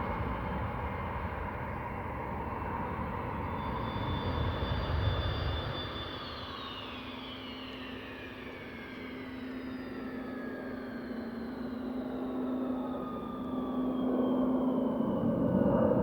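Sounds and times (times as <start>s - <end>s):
jet engine low rumble: 0.0s - 16.0s.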